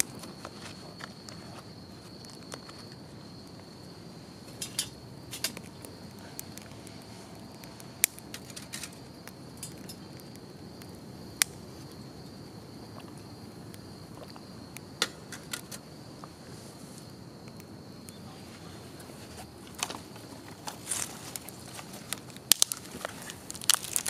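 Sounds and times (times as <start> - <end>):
high insect trill: 0.0 - 24.0
wood fire popping and crackling: 0.0 - 24.0.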